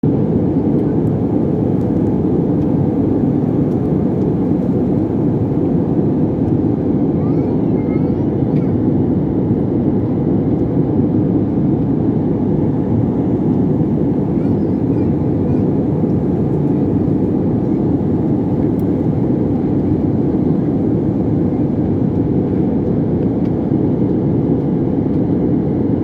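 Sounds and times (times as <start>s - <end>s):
aircraft rumble: 0.0s - 26.0s.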